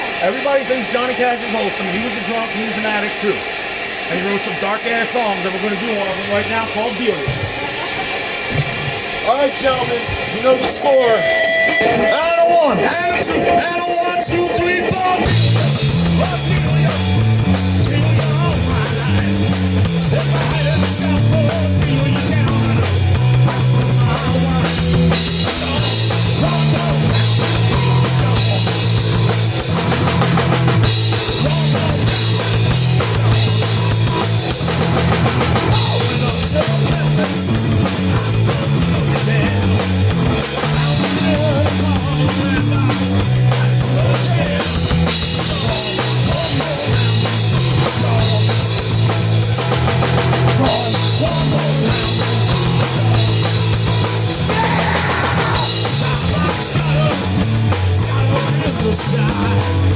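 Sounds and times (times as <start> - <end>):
drum kit: 0.0 - 59.9
live rock band playing: 0.0 - 59.9
bass line: 8.5 - 59.9.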